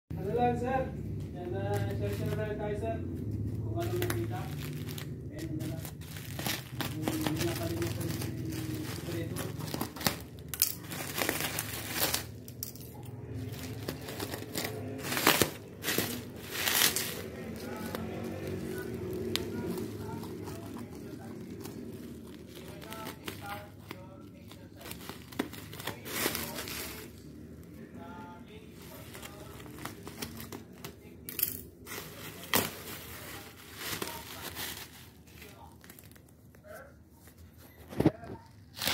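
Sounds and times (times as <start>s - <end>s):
bubble wrap crinkling and tearing: 1.7s - 37.0s, 37.9s - 38.9s.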